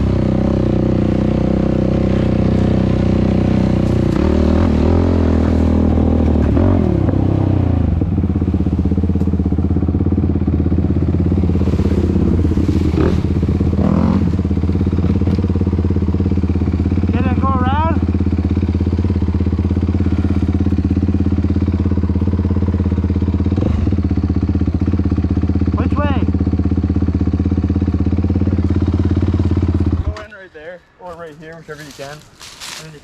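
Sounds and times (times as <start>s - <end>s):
quad engine revving and idling: 0.0s - 30.4s.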